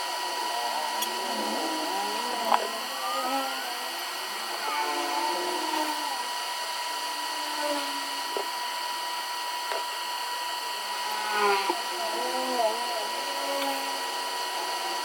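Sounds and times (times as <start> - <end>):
hot air station blowing with whine: 0.0 - 15.0.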